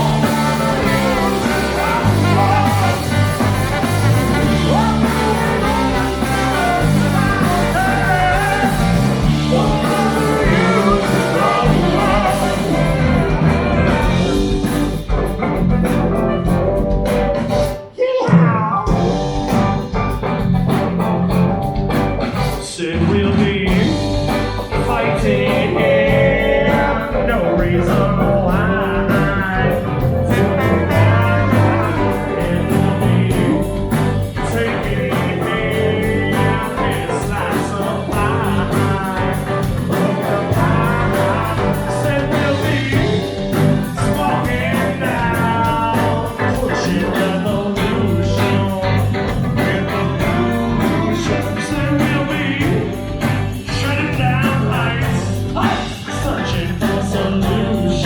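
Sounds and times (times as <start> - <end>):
person singing: 0.0 - 15.7, 17.8 - 20.2, 22.4 - 58.0
drums: 0.0 - 58.0
guitar: 0.0 - 58.0.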